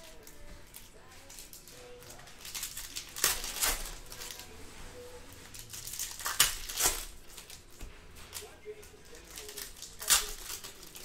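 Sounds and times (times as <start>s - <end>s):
foil wrapper crinkling and tearing: 0.0s - 4.5s, 5.4s - 11.0s.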